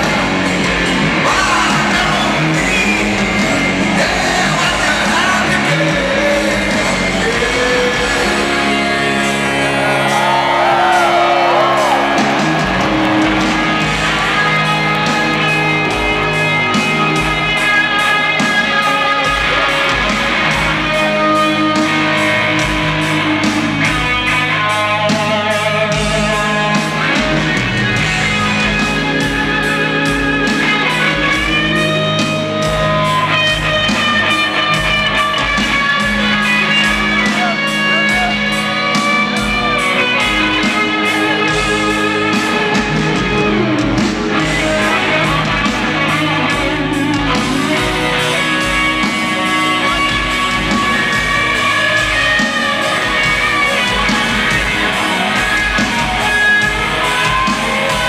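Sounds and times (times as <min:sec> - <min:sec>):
bass: 0:00.0 - 0:58.0
drums: 0:00.0 - 0:58.0
electric guitar melody: 0:00.0 - 0:58.0.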